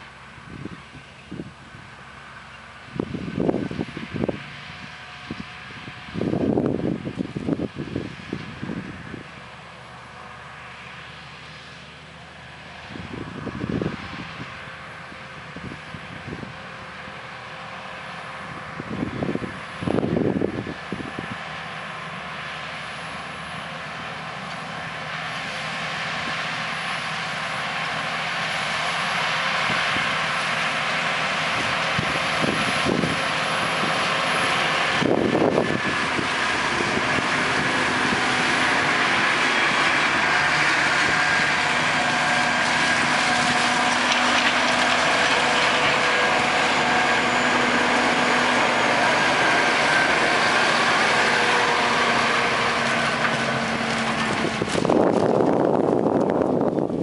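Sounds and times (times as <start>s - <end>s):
tractor engine drone: 0.0s - 57.0s
low rumbles: 11.2s - 57.0s.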